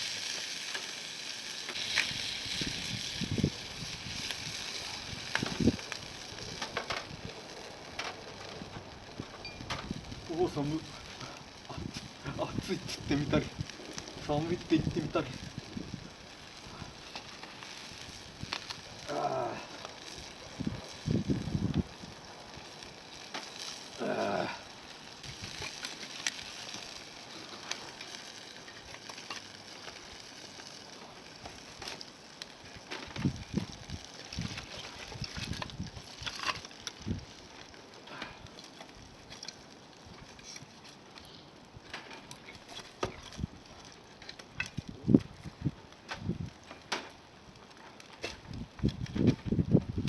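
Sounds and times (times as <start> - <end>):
sharp pops and snaps: 0.0 - 10.4, 11.2 - 24.0, 24.6 - 50.0
wood fire crackling: 0.0 - 50.0.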